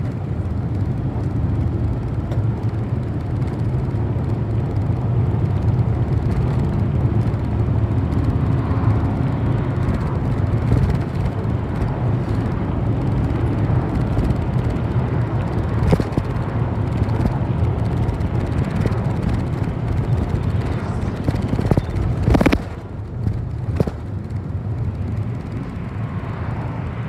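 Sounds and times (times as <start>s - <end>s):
bus engine drone: 0.0s - 27.0s
road and tyre noise: 0.0s - 27.0s.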